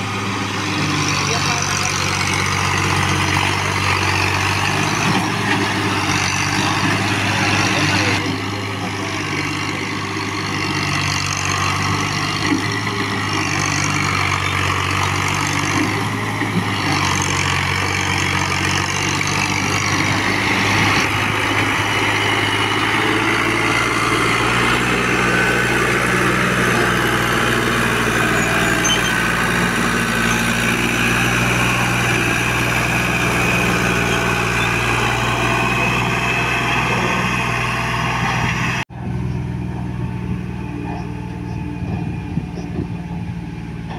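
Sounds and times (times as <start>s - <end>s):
diesel tractor engine under load: 0.0s - 43.9s.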